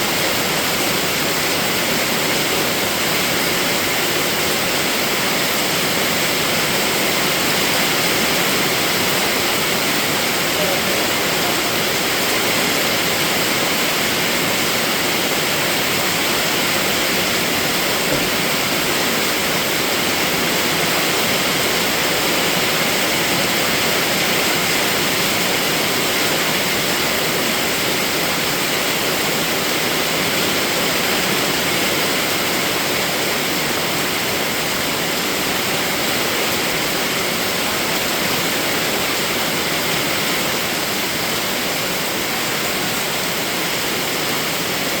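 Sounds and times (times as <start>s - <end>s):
heavy rain hissing: 0.0s - 45.0s.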